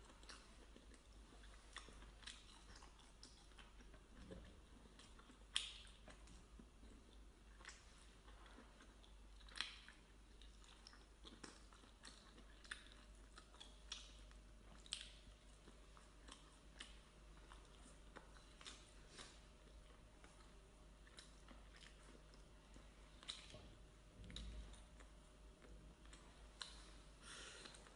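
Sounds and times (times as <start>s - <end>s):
person chewing octopus: 0.0s - 27.9s.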